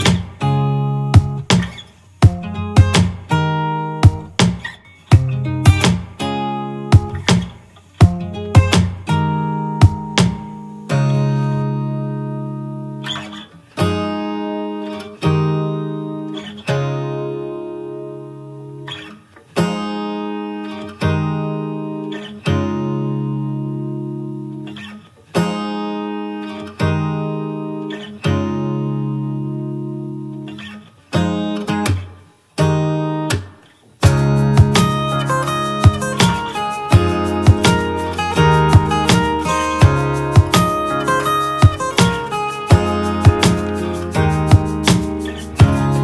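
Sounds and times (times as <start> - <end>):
acoustic guitar strumming chords: 0.0 - 46.0.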